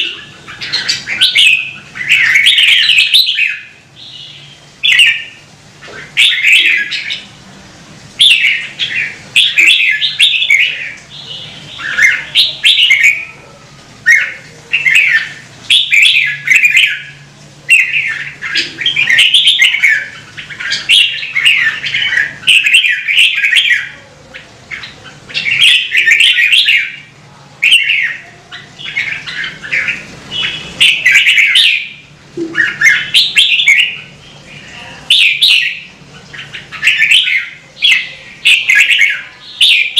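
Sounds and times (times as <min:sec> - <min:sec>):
bulbul singing warbled phrases: 0:00.0 - 0:07.4, 0:08.2 - 0:39.9.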